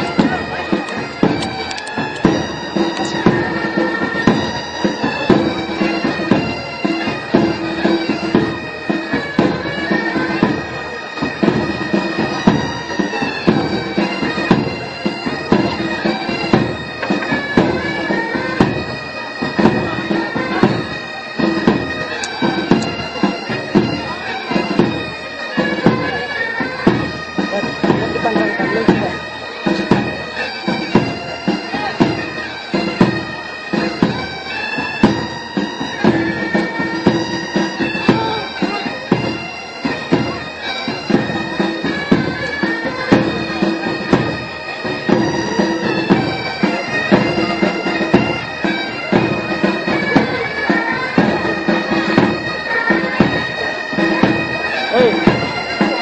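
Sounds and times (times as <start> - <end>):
bagpipes playing tune: 0.0 - 56.0
drum beats: 0.0 - 56.0.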